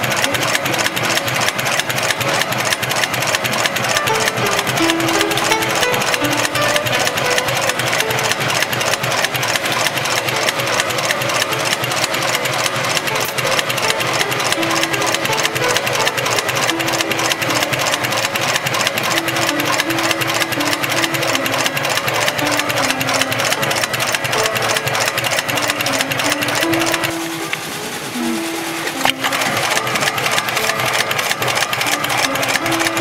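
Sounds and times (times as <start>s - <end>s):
sewing machine stitching rapidly: 0.0s - 33.0s.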